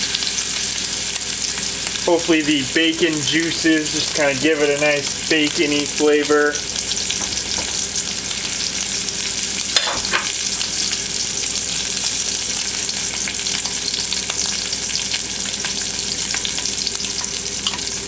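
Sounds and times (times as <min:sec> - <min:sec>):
fish sizzling in a frying pan: 0:00.0 - 0:18.0.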